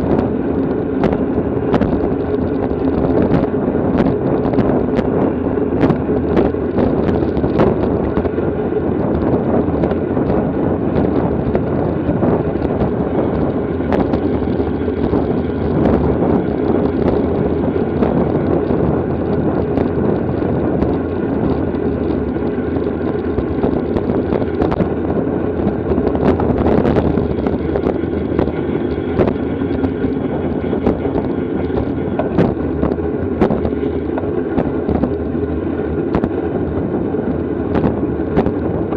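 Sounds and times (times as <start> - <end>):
bicycle road noise: 0.0 - 38.9
wind rush over microphone: 0.0 - 38.9.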